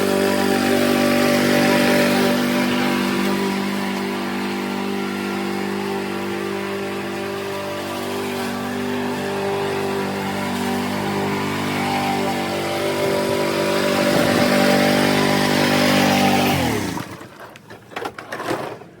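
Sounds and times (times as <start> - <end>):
engine winding down: 0.0 - 17.3
lawnmower engine running: 0.0 - 19.0.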